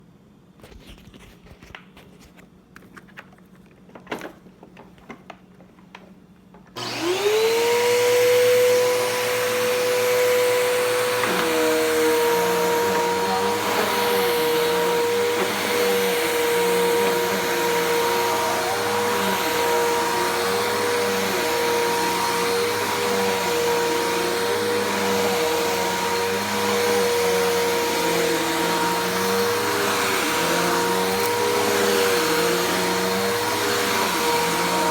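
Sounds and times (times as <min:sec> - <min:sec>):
vacuum cleaner motor whining: 0:06.7 - 0:34.9.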